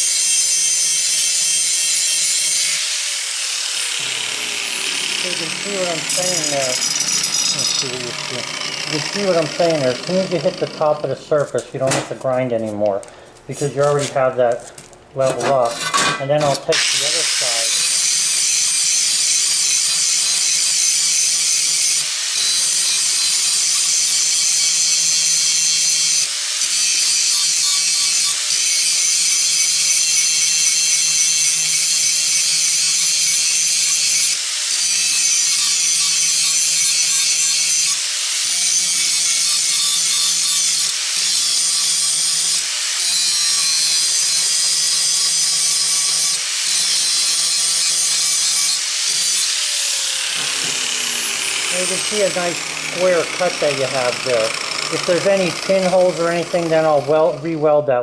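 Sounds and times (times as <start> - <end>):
electric grinder grinding metal: 0.0 - 12.8, 13.6 - 14.4, 15.2 - 57.6.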